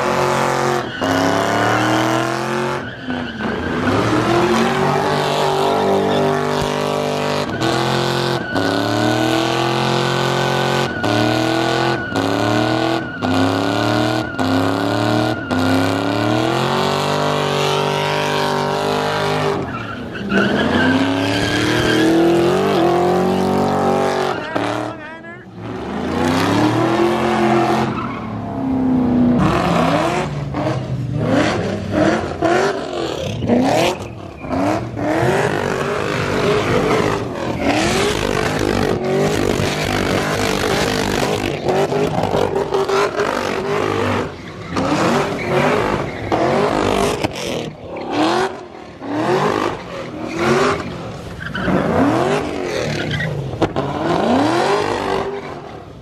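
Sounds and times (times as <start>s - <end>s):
tyres squealing on wet pavement: 0.0s - 28.7s, 31.3s - 56.0s
car engines revving hard: 0.0s - 56.0s.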